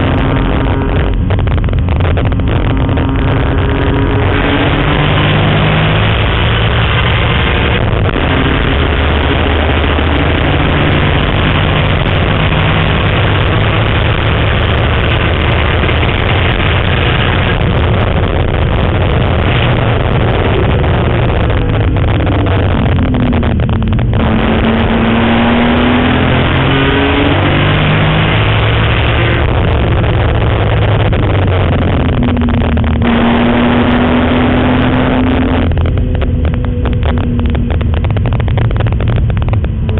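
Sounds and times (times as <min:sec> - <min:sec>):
race car engine at hard throttle: 0:00.0 - 0:39.9
road and wind noise: 0:00.0 - 0:39.9.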